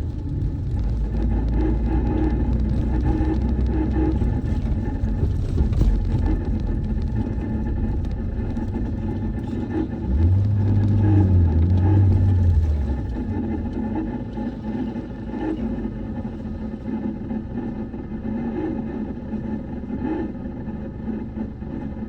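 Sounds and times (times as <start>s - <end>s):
loud low hum: 0.0s - 22.0s
vehicle engine rumble: 0.0s - 22.0s.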